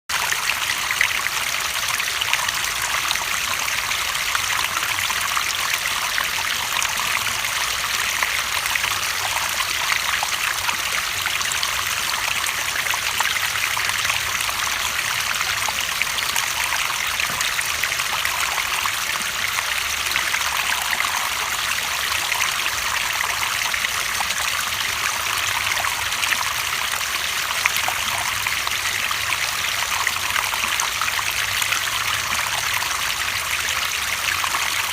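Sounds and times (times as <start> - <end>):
water trickling and babbling: 0.1 - 34.9.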